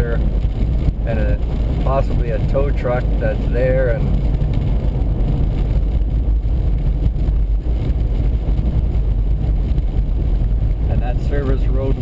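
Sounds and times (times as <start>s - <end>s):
road and tyre noise: 0.0s - 12.0s
wind gusting against car: 0.0s - 12.0s.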